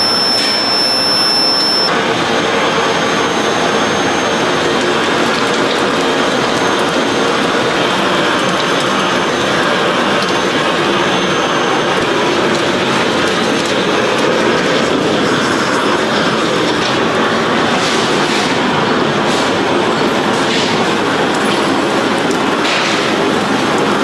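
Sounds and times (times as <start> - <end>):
machinery clatter and rumble: 1.9 - 24.0.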